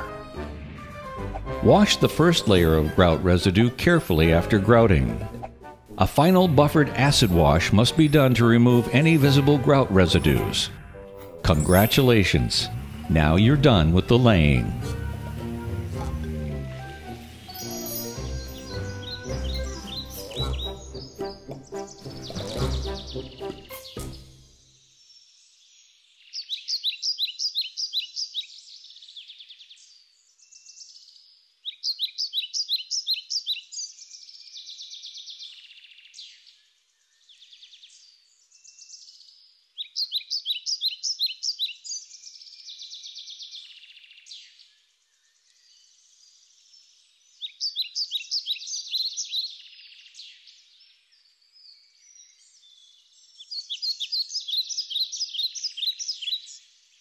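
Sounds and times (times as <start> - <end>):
songbird singing: 1.2 - 57.0.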